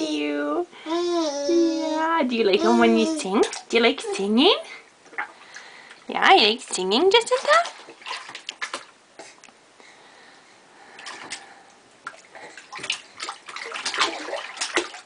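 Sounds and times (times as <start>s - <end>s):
baby splashing bathwater: 0.9s - 9.4s, 10.9s - 15.0s.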